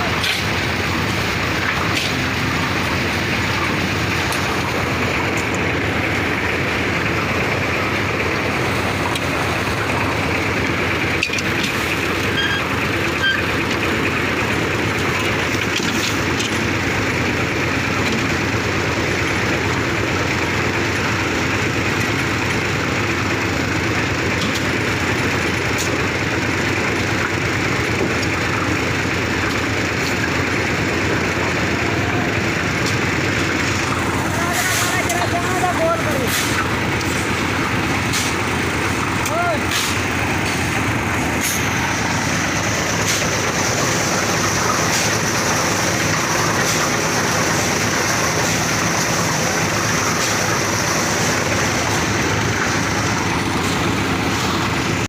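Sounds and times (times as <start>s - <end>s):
engine-driven machine running: 0.0s - 55.0s.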